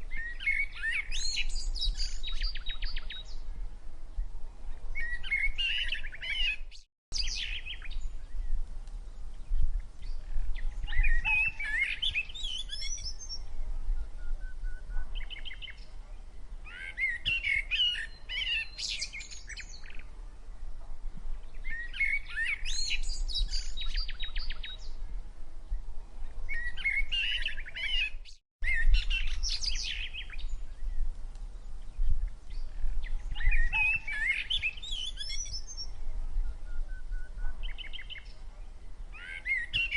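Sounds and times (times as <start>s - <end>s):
small birds chirping: 0.1s - 3.5s, 4.9s - 20.1s, 21.4s - 25.1s, 26.5s - 39.9s.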